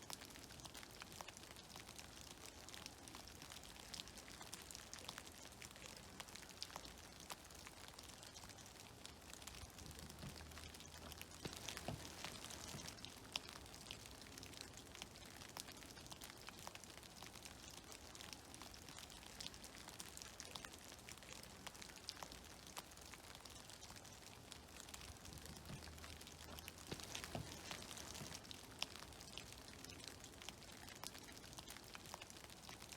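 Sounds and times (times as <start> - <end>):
soft steady hiss: 0.0 - 32.9
water dripping from trees: 0.0 - 32.9.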